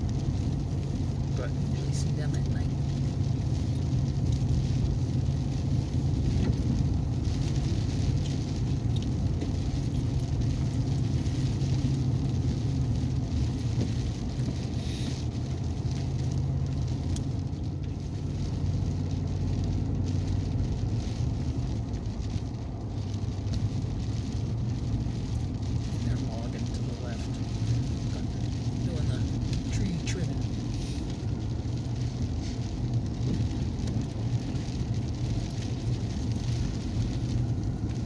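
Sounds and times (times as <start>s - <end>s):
engine hum and tyre rumble: 0.0s - 38.0s
light ticks from road: 0.0s - 38.0s.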